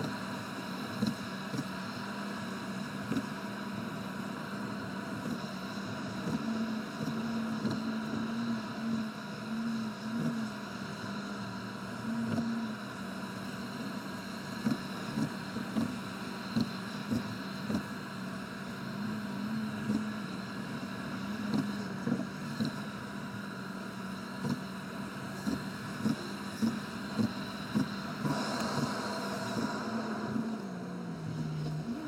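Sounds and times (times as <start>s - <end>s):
engine and road drone: 0.0s - 32.0s.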